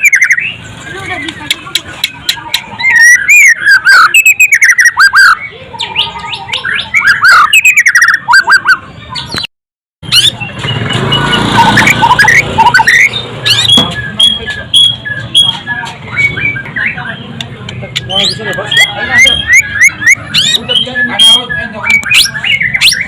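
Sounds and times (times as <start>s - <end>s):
bird singing whistles and chirps: 0.0s - 9.5s, 10.1s - 23.0s.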